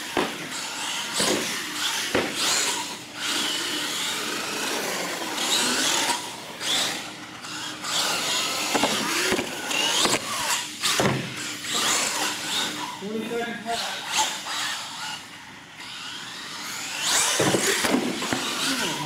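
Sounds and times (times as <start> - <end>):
toy truck motor whine: 0.0 - 13.0, 13.8 - 19.0.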